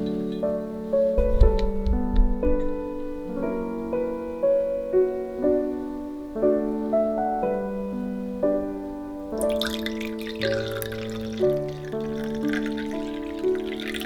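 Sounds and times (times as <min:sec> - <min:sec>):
gentle solo piano: 0:00.0 - 0:14.0.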